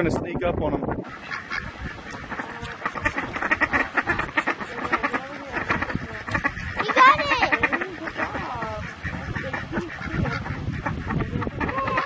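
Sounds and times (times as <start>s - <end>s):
ducks quacking: 0.8s - 12.0s.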